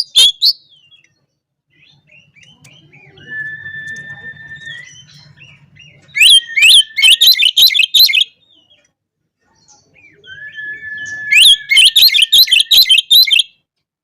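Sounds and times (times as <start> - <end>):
bird singing whistles and notes: 0.0 - 1.0, 1.8 - 8.4, 9.9 - 13.6.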